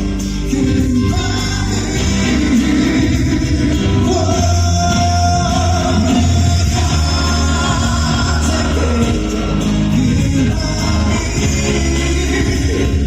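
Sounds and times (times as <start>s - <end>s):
live pop band with singing: 0.0s - 13.0s.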